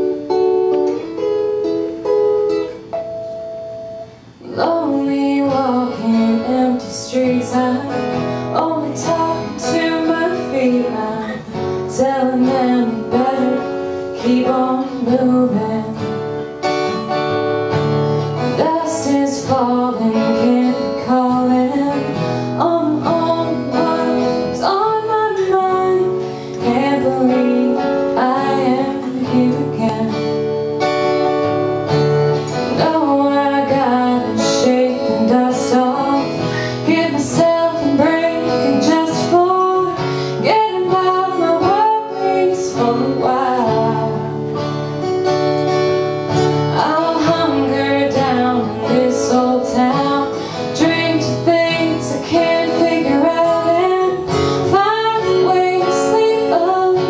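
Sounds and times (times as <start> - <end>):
strummed acoustic guitars: 0.0 - 57.0
woman singing folk song: 4.2 - 57.0.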